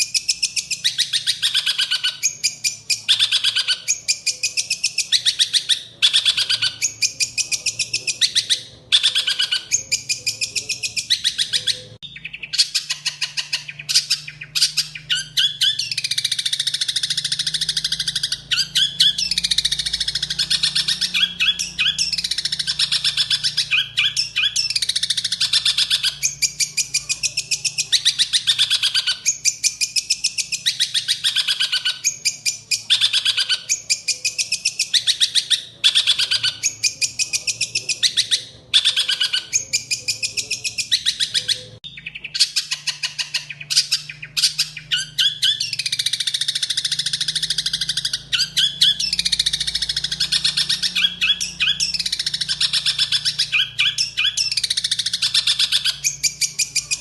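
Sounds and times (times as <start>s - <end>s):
songbird singing rapid phrases: 0.0s - 57.0s.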